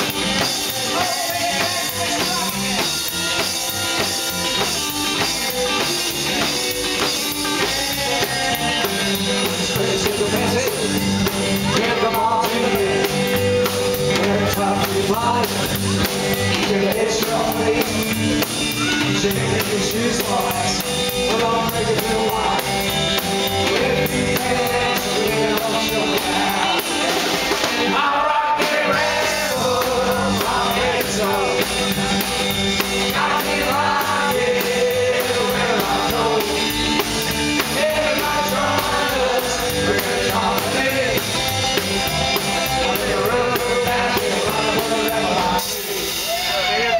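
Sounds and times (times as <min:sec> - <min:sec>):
rock and roll band playing live: 0:00.0 - 0:46.9.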